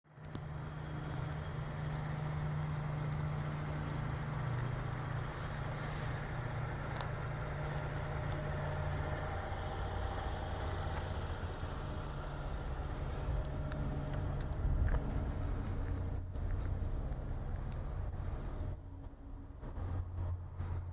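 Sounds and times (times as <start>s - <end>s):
truck engine running: 0.1s - 20.9s.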